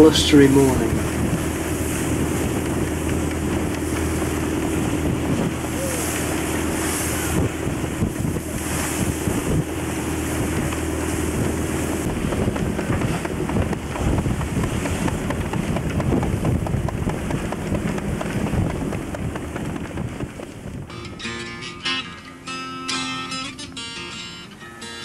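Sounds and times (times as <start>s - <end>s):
wind buffeting microphone: 0.0s - 21.3s
waves splashing past hull: 0.0s - 24.2s.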